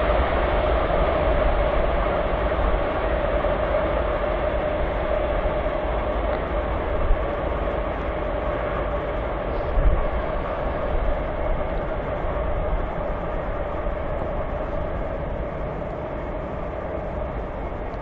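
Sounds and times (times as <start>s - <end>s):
constant hum: 0.0s - 18.0s
train wheels rumbling on rail: 0.0s - 18.0s.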